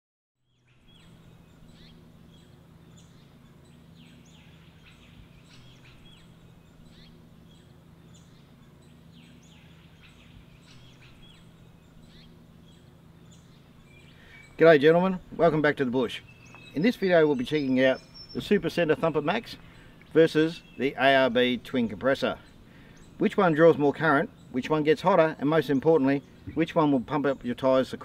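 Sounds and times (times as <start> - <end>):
birds calling: 0.4 - 28.0
low steady hum: 0.4 - 28.0.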